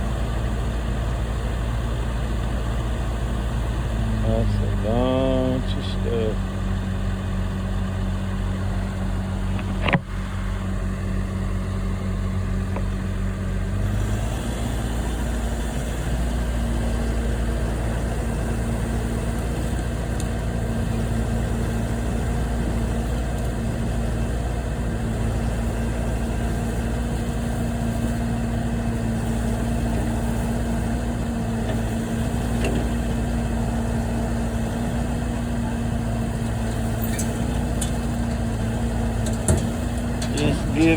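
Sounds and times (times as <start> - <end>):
heavy equipment engine revving: 0.0 - 40.9.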